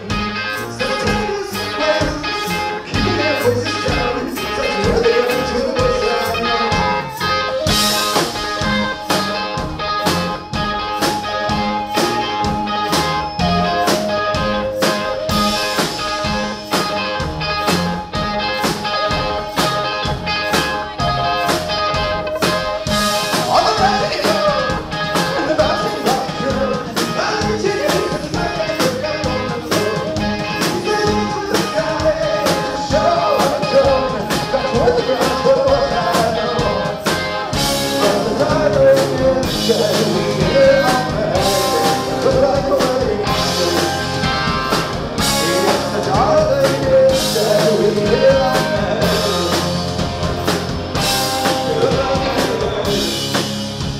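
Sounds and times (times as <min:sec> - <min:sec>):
person singing: 0:00.0 - 0:08.6, 0:10.9 - 0:50.2, 0:51.0 - 0:53.4
drum kit beat: 0:00.0 - 0:53.9
electric guitar: 0:00.0 - 0:53.9
held keyboard notes: 0:00.0 - 0:53.9.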